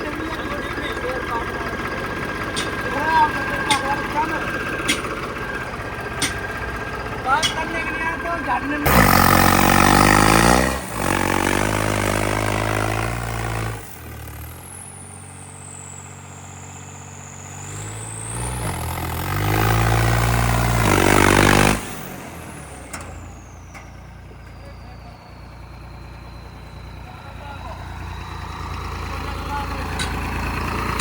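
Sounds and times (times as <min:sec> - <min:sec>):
tractor diesel engine revving and idling: 0:00.0 - 0:31.0.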